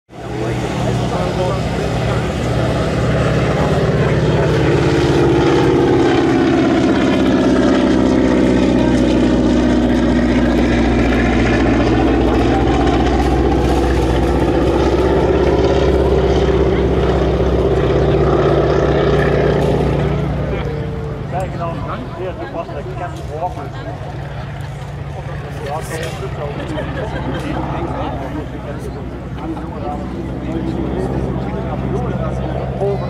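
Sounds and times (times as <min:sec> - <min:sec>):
propeller plane engine running: 0:00.1 - 0:33.0.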